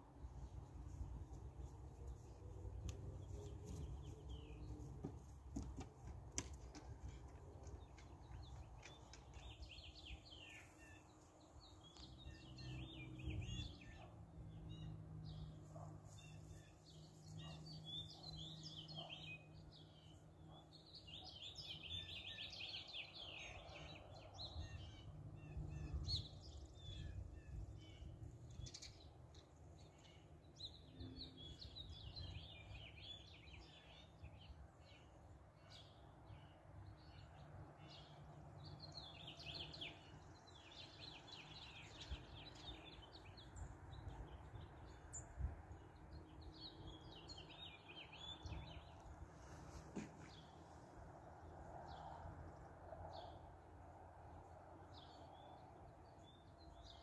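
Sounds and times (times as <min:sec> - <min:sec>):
small birds chirping: 0:00.1 - 0:53.5.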